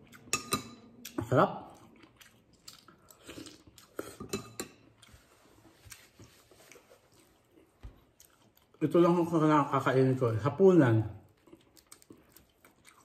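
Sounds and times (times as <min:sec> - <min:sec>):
man chewing food: 0:00.0 - 0:08.8, 0:11.3 - 0:13.0.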